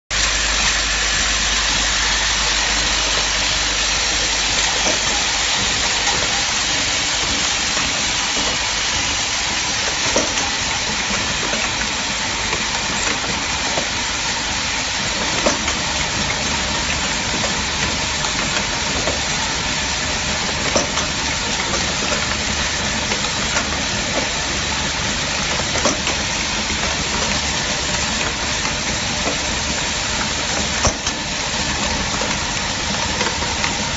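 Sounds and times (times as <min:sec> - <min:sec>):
packing machine hissing: 0:00.1 - 0:33.9.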